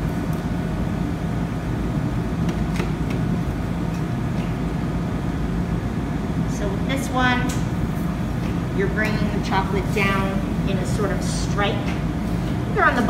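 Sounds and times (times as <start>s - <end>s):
kitchen equipment hum: 0.0s - 13.0s.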